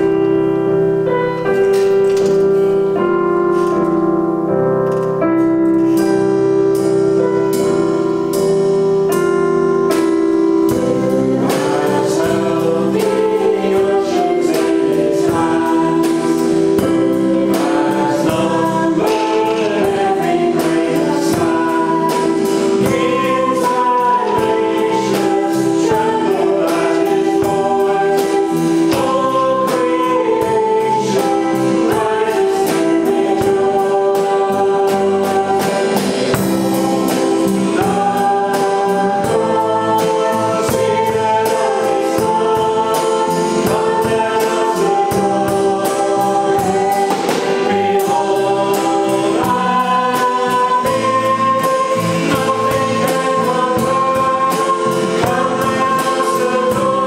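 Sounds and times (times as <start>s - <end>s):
drum kit with cymbal beat: 0.0s - 57.0s
keyboard: 0.0s - 57.0s
electric bass: 5.8s - 57.0s
woman and man singing: 10.7s - 57.0s.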